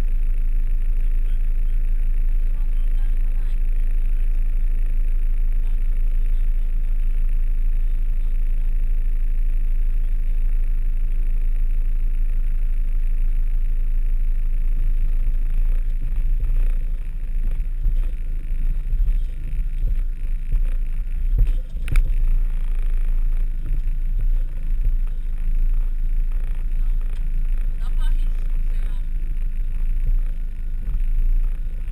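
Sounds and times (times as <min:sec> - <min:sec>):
van engine droning: 0:00.0 - 0:31.9.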